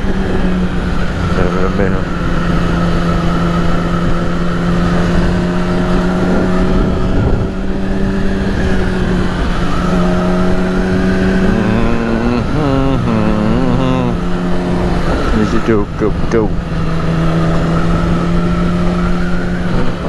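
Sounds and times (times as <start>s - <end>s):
motorcycle engine cruising: 0.0s - 20.0s
wind rush on microphone: 0.0s - 20.0s.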